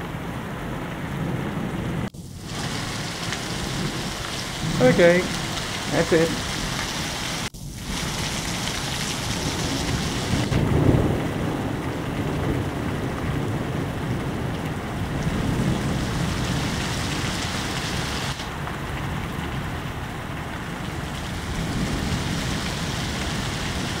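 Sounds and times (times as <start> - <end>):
heavy rain: 0.0 - 24.0
thunder rumbling: 0.0 - 24.0.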